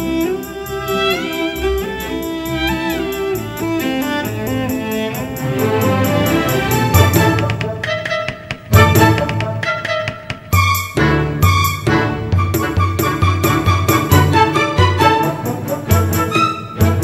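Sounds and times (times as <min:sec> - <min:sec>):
bowed strings melody: 0:00.0 - 0:17.0
instrumental dance music: 0:00.0 - 0:17.0.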